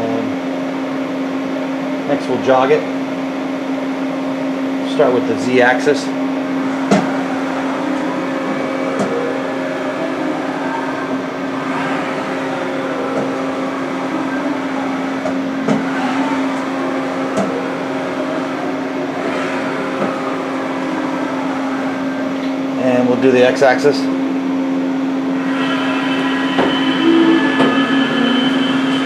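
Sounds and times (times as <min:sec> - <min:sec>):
machine humming: 0:00.0 - 0:29.0.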